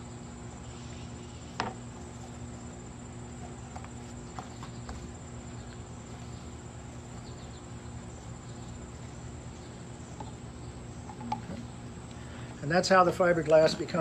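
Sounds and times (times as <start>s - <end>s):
crickets trilling: 0.0s - 14.0s
low steady hum: 0.0s - 14.0s.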